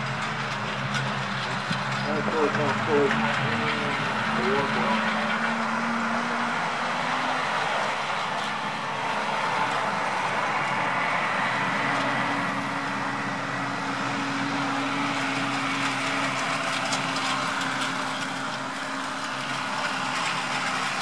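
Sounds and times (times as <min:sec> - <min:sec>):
engine-like hum: 0:00.0 - 0:21.0
outdoor background noise: 0:00.0 - 0:21.0.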